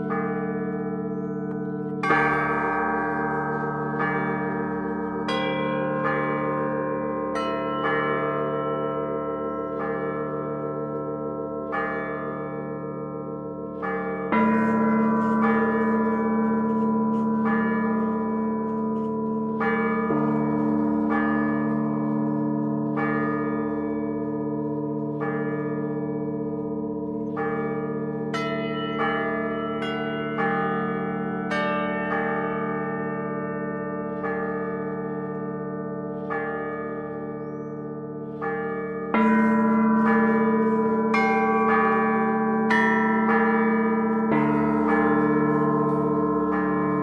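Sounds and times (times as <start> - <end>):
deep large bell: 0.0 - 47.0
medium church bells ringing: 0.0 - 47.0
small high bells: 0.0 - 47.0.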